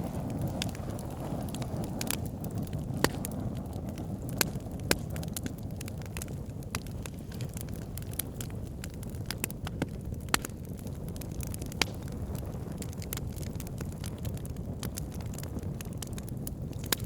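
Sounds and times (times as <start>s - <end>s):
fire burning in fireplace: 0.0s - 17.0s
fire crackling and popping: 0.0s - 17.0s.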